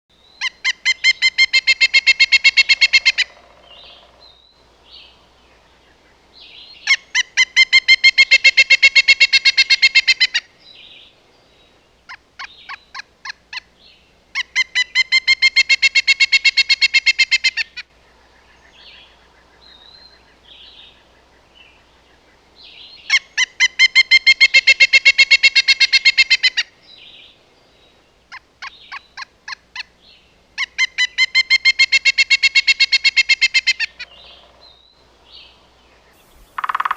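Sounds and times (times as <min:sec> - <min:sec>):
woodpecker calling: 0:00.4 - 0:27.4, 0:28.2 - 0:36.9.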